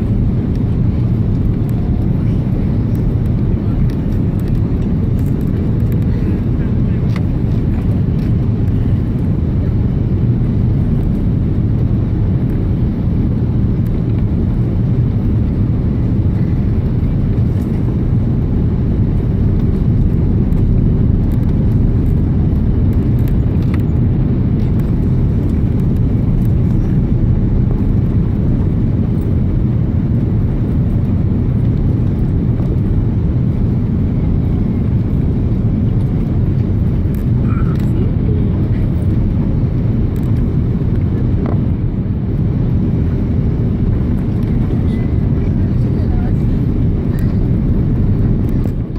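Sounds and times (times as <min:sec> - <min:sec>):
airliner cabin engine roar: 0:00.0 - 0:48.9.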